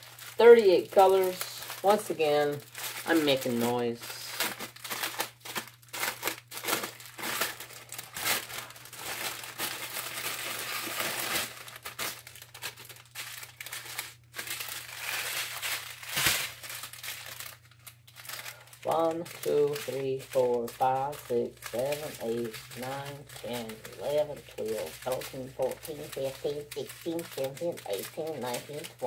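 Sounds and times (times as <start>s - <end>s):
plastic packaging crinkling: 0.0s - 29.0s.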